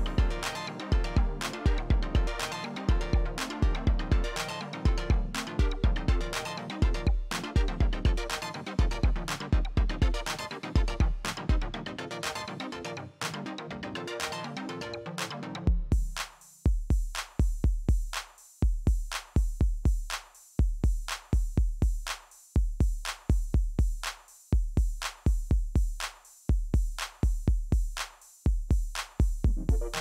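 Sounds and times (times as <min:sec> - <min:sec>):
electronic drum machine beat: 0:00.0 - 0:30.0.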